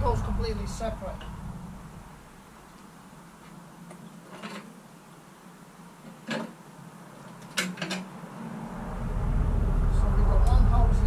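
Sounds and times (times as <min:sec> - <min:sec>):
low steady background: 0:00.0 - 0:11.0.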